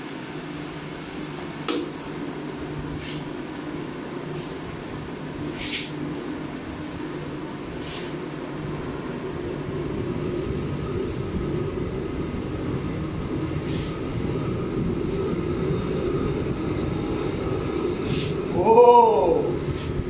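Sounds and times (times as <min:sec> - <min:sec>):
faint constant whine: 0:00.0 - 0:20.0
gas heater roaring: 0:00.0 - 0:20.0.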